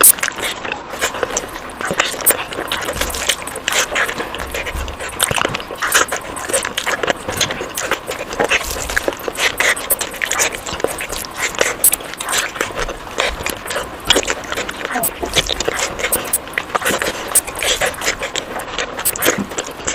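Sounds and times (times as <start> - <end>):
wet chewing mouth smacks: 0.0 - 19.9.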